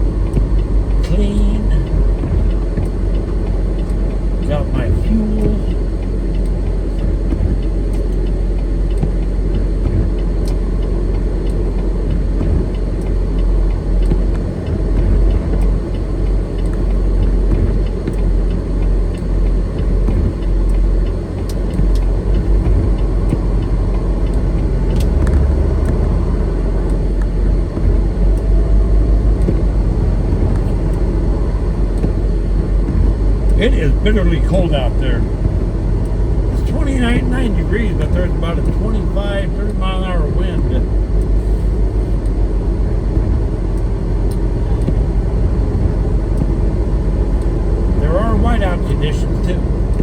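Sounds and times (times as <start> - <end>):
road noise: 0.0 - 50.0
truck diesel engine rumble: 0.0 - 50.0.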